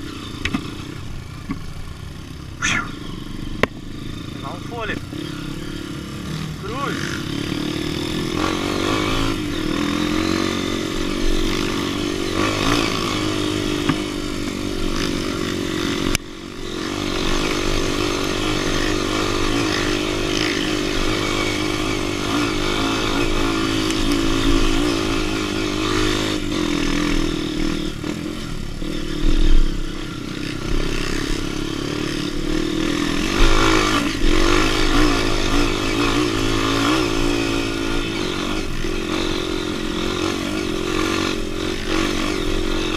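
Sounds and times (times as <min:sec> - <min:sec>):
off-road motorcycle engine revving: 0:00.0 - 0:42.9.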